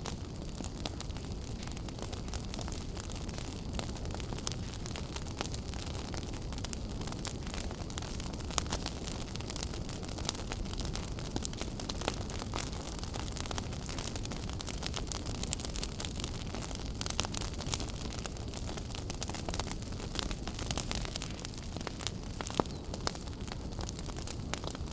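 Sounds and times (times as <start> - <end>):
fire low rumble: 0.0 - 24.9
wood fire crackling and popping: 0.0 - 24.9.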